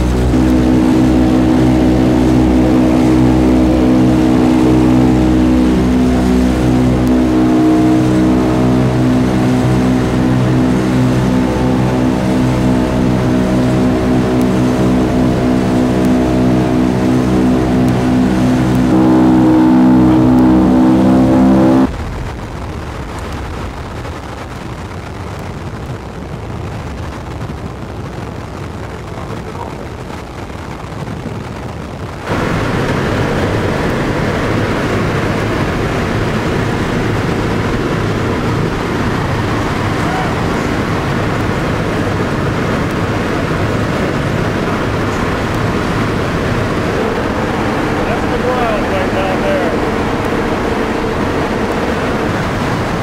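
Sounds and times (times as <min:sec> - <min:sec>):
aircraft engines droning: 0:00.0 - 0:21.9, 0:32.3 - 0:53.0
rush of wind and engine: 0:00.0 - 0:53.0.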